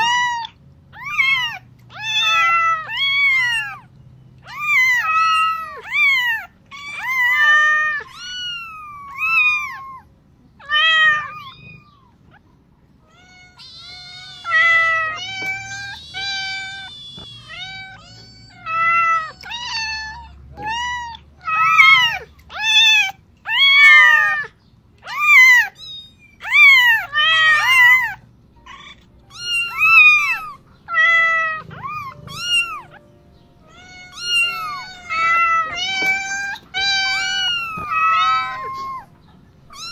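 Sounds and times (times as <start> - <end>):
cats meowing: 0.0 - 39.9.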